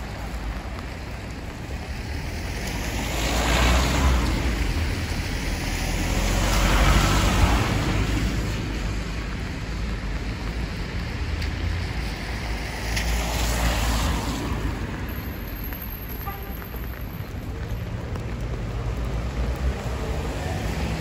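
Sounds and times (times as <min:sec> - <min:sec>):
rain hiss: 0:00.0 - 0:21.0
traffic on wet road: 0:00.0 - 0:21.0.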